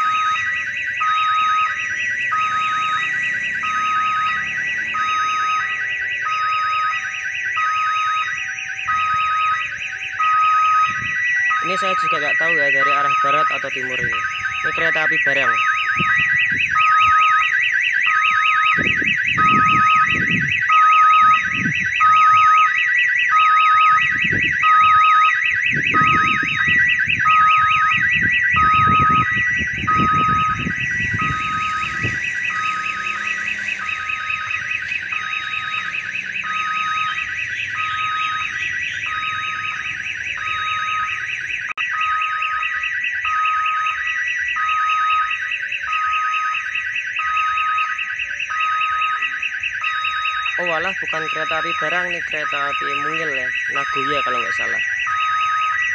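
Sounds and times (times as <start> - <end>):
level-crossing warning siren: 0.0 - 55.9.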